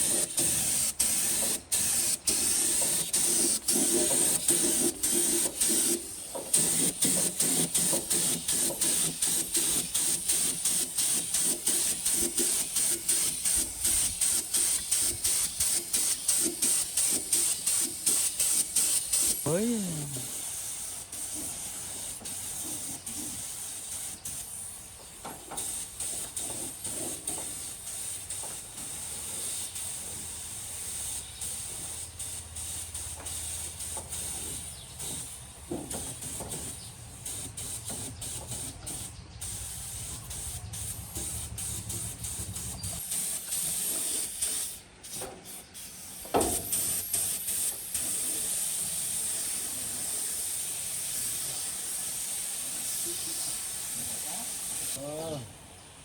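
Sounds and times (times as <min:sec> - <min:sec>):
spraying hiss: 0:00.0 - 0:55.4.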